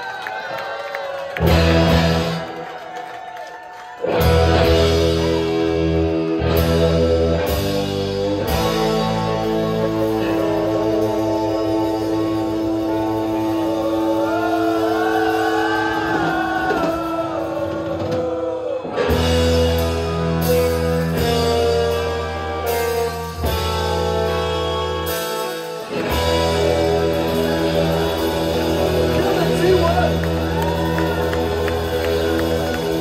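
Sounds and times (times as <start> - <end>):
live rock band playing: 1.3 - 2.8, 4.0 - 33.0.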